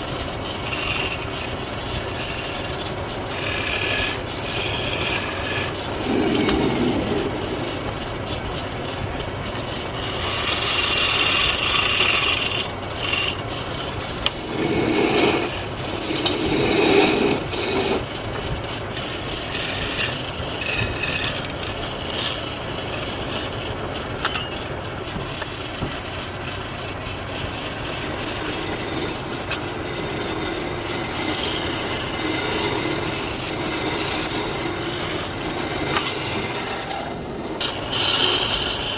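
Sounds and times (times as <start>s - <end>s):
woodturning tool scraping wood: 0.0s - 38.9s.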